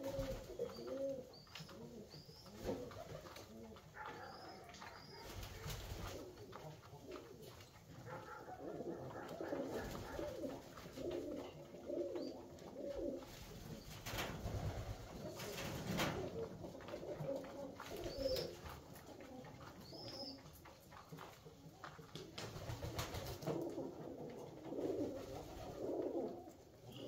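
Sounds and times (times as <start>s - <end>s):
pigeons cooing: 0.0s - 20.7s, 22.6s - 27.0s.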